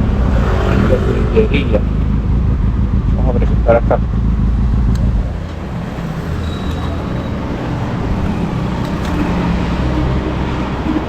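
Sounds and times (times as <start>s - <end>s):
traffic rumble and road noise: 0.0s - 11.0s.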